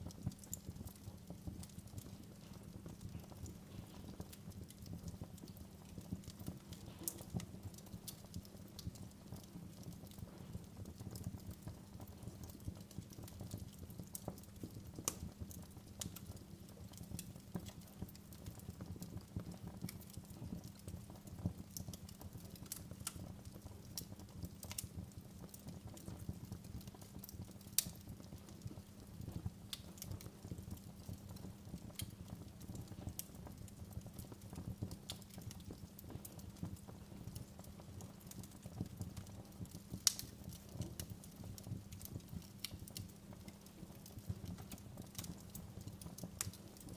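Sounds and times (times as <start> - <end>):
fire crackling in a fireplace: 0.0 - 46.9.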